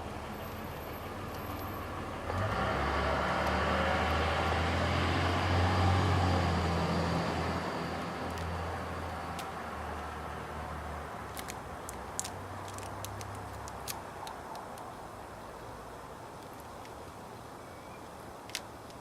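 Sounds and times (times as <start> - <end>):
vehicle engine hum: 0.0 - 17.6
road noise: 0.0 - 19.0.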